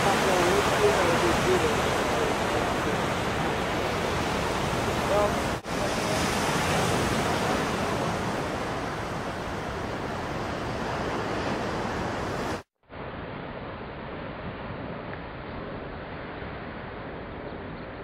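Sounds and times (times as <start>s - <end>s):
ocean surf washing onto beach: 0.0s - 17.3s
wind on microphone: 0.0s - 18.0s.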